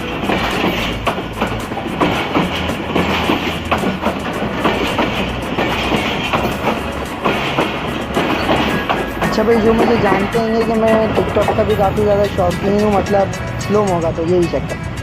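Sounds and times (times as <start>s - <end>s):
train rumble: 0.0s - 15.0s
train wheels clattering over rail joints: 0.0s - 15.0s.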